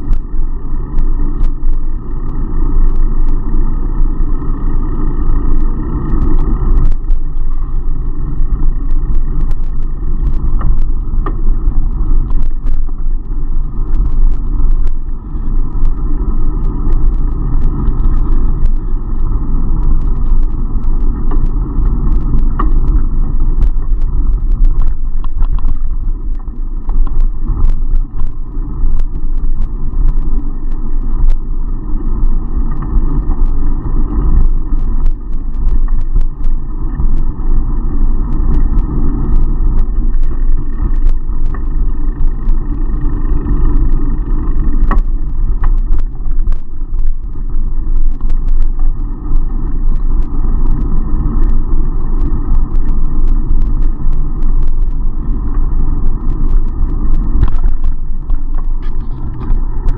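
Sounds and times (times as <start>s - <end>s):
road noise: 0.0s - 59.9s
wind rumble on microphone: 0.0s - 59.9s
bike clicks and rattles: 4.6s - 59.9s.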